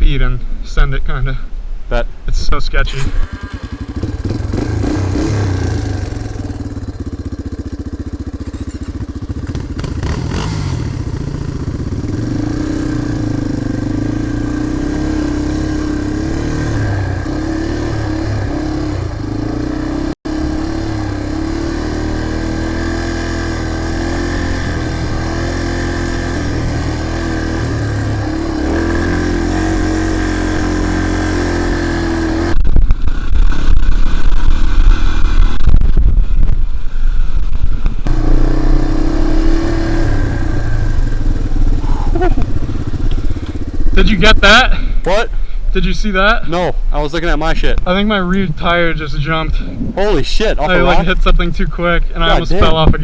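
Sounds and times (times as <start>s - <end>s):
dirt bike engine: 2.8s - 53.0s.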